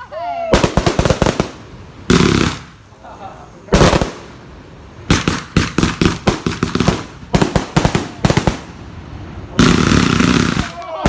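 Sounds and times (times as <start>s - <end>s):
fireworks bangs and cracks: 0.2s - 11.0s.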